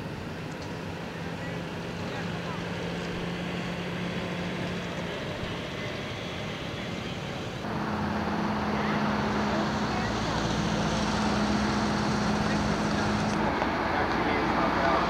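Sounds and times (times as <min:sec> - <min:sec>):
faint constant drone: 0:00.0 - 0:15.0
street traffic hum: 0:00.0 - 0:15.0.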